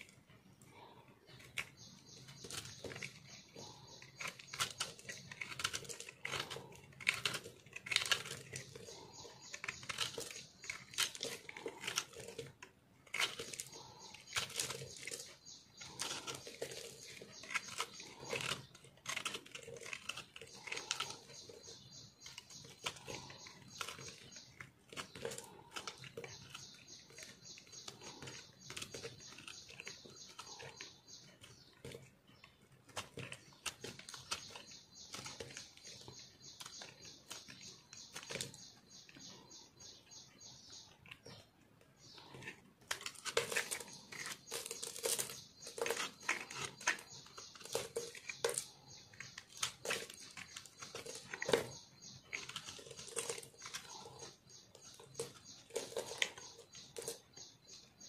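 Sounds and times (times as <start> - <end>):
knife carving soap crackling: 0.0 - 58.0.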